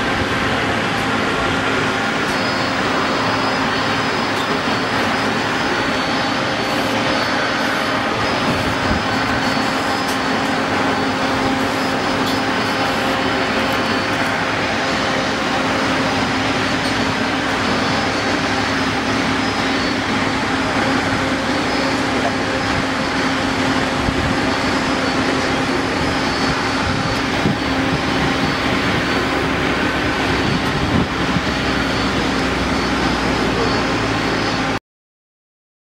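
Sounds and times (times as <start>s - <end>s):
aircraft turbine whine: 0.0s - 34.8s.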